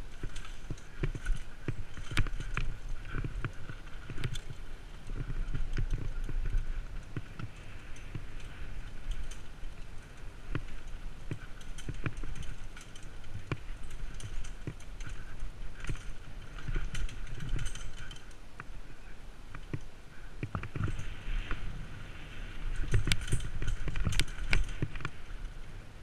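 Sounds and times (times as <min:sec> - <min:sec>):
stones and bike parts rattling: 0:00.0 - 0:25.6
bike tyres rumbling on dirt trail: 0:00.0 - 0:26.0.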